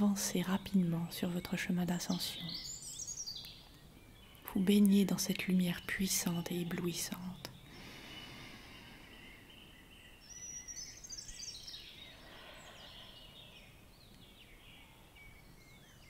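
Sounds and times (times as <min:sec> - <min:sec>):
faint birdsong: 0:00.0 - 0:16.0
soft background hiss: 0:00.0 - 0:16.0.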